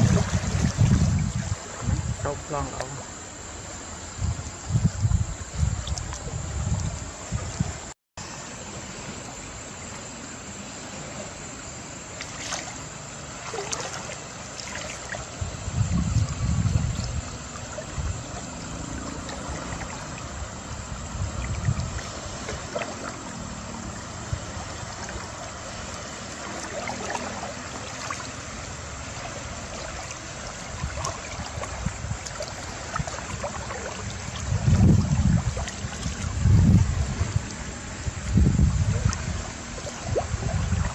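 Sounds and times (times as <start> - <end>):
river water flowing and splashing: 0.0 - 40.9.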